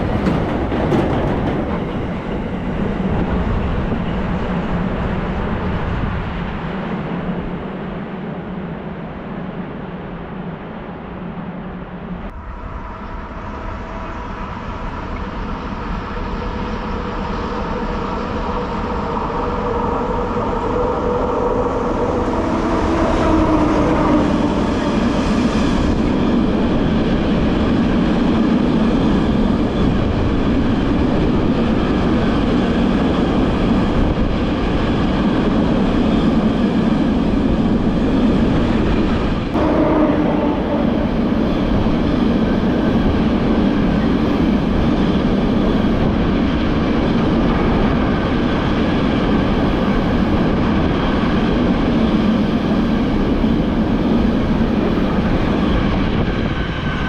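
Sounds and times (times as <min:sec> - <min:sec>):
electric locomotive whine: 0:00.0 - 0:57.0.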